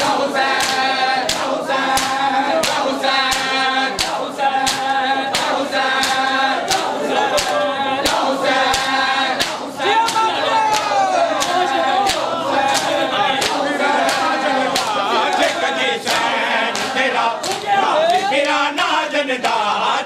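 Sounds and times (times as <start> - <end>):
chest-beating slaps: 0.0 - 18.6
men chanting together: 0.0 - 20.0.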